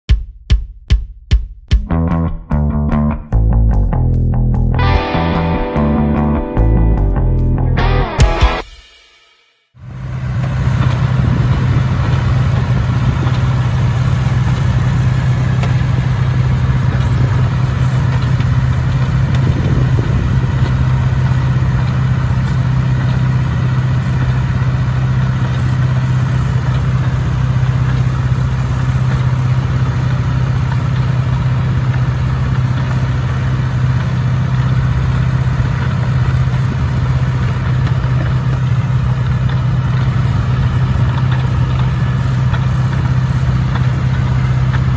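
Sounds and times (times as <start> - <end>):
tractor diesel engine running: 3.3 - 8.6, 9.8 - 44.9.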